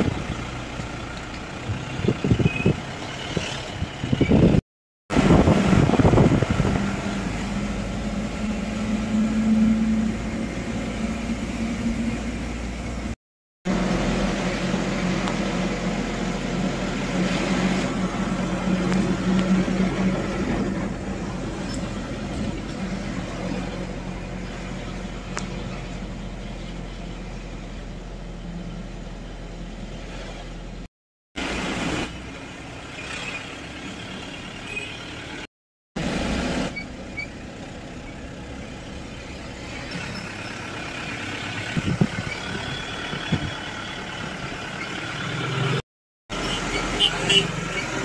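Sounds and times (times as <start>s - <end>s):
tyre and road noise: 0.0s - 48.0s
vehicle engine humming: 0.0s - 48.0s.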